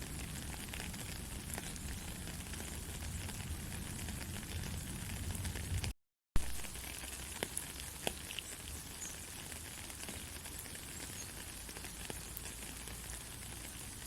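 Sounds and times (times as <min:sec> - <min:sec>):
raindrops ticking close by: 0:00.0 - 0:14.0
steady rain hiss: 0:00.0 - 0:14.0.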